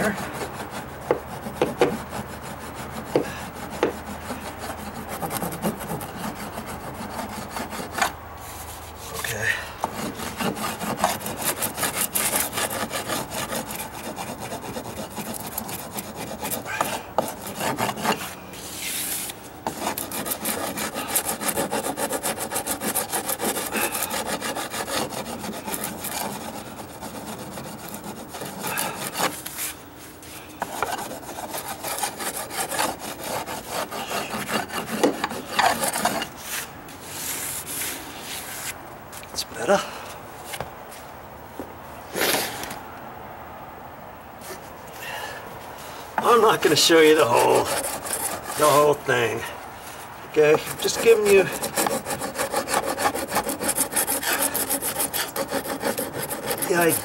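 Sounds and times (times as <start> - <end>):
sanding block rubbing wood: 0.0 - 38.8, 46.2 - 49.4, 50.4 - 57.0.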